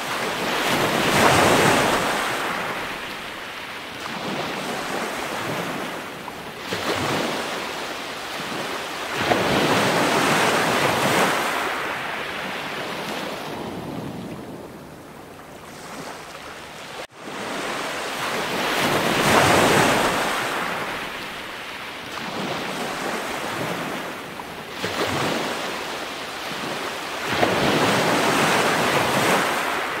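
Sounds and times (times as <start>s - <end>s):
surf washing in and out: 0.0s - 30.0s.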